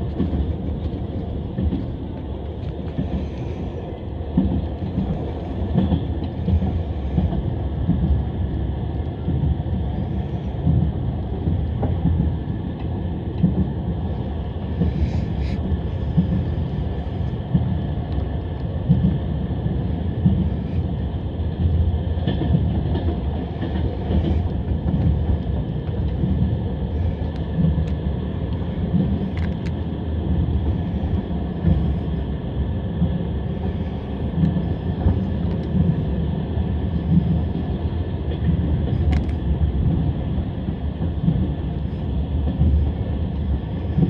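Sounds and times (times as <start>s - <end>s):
train wheels on rails: 0.0s - 44.0s.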